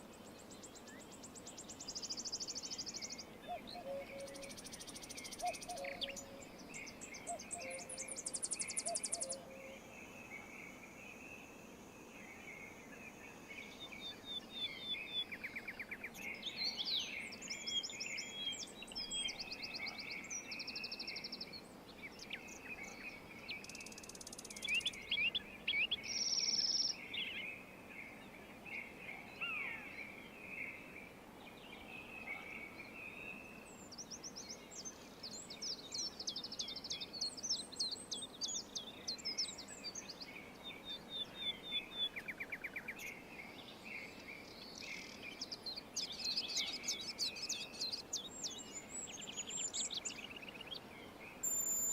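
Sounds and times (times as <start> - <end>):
soft background hiss: 0.0 - 51.9
songbirds singing and trilling: 0.0 - 51.9.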